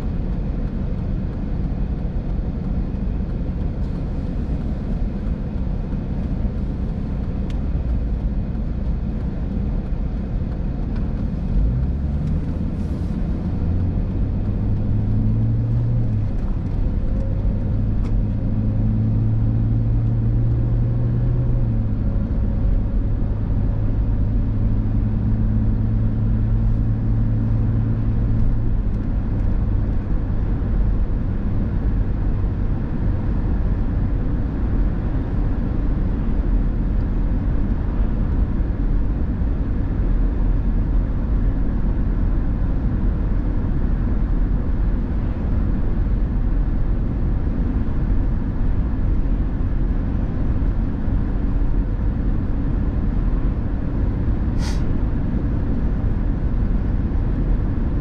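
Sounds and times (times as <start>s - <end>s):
car engine heard from cabin: 0.0s - 58.0s
road noise: 0.0s - 58.0s.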